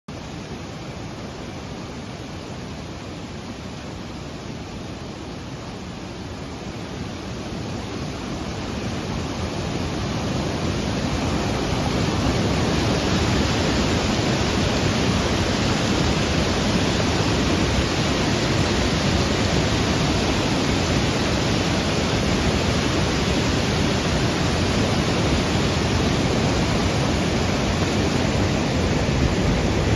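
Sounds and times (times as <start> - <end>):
flood water rushing: 0.1 - 29.9.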